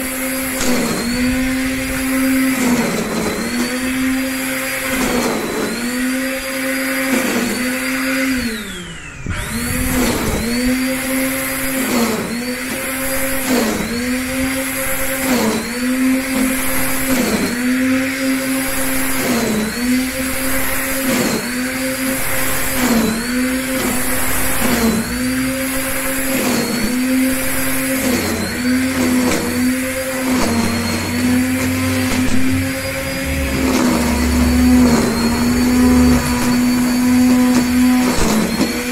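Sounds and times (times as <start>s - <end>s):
electric string trimmer whining: 0.0s - 38.9s.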